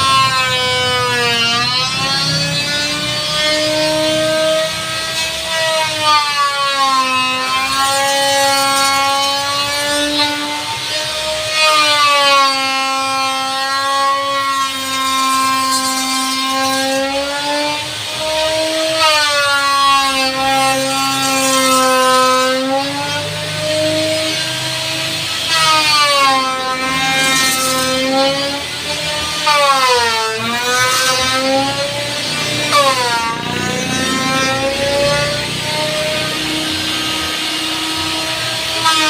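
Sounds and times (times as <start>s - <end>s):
power tool motor whining: 0.0s - 39.0s.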